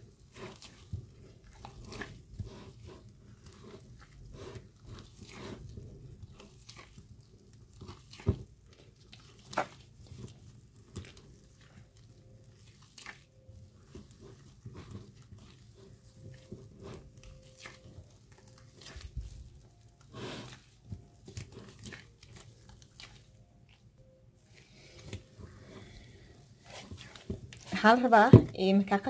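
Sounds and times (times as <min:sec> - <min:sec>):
dough squishing and slapping: 0:00.0 - 0:29.0
plastic gloves crinkling: 0:00.0 - 0:29.0.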